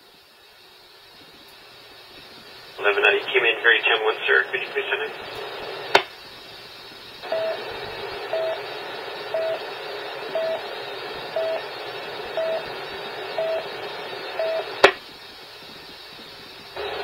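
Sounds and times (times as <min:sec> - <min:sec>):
radio hiss: 0:00.0 - 0:17.0.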